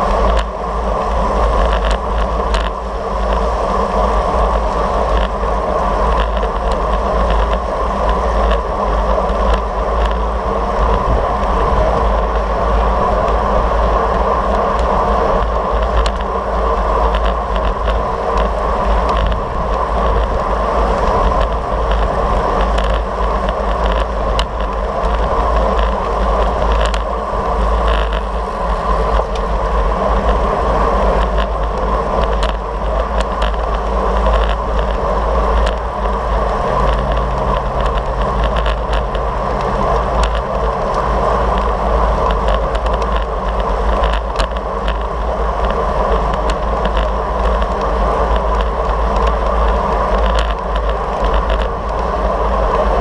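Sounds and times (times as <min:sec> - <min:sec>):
tyre-on-road noise: 0:00.0 - 0:53.0
wind rumble on microphone: 0:00.0 - 0:53.0
small clicks and rattles: 0:01.6 - 0:03.5, 0:04.2 - 0:10.3, 0:14.5 - 0:16.4, 0:17.0 - 0:29.5, 0:30.1 - 0:52.2.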